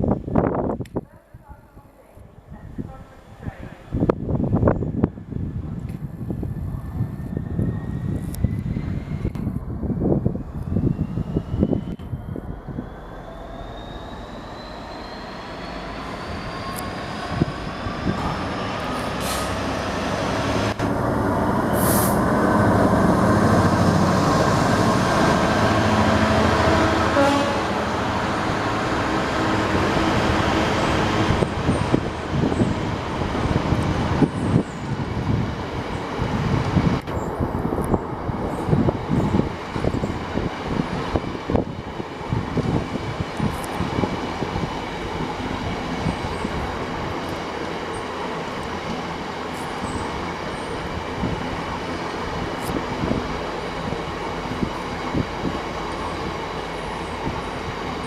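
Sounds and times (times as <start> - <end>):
diesel locomotive engine running: 3.9 - 58.0.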